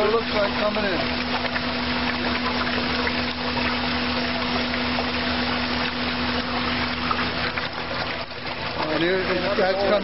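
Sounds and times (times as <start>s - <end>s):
water gushing into steel tank: 0.0s - 10.0s.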